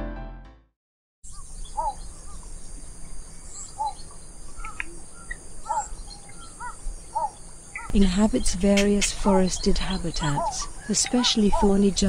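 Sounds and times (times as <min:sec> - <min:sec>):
bird chirping: 0:01.3 - 0:12.0.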